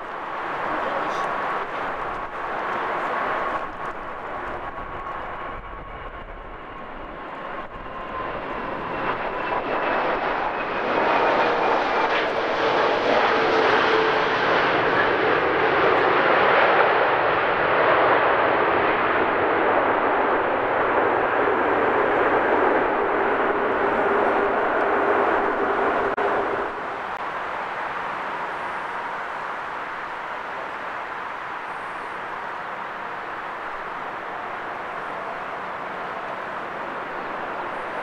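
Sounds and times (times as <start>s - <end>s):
jet engine roar: 0.0s - 38.0s.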